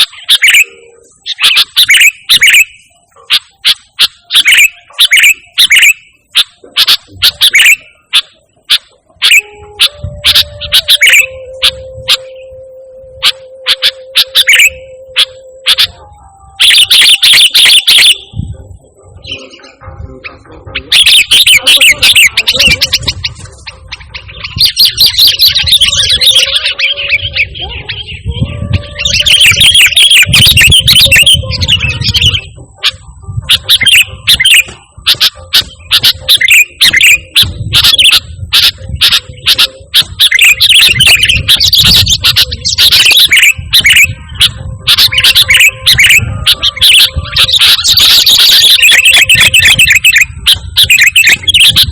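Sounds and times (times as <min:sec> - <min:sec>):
bulbul chirping: 0:00.0 - 0:51.9.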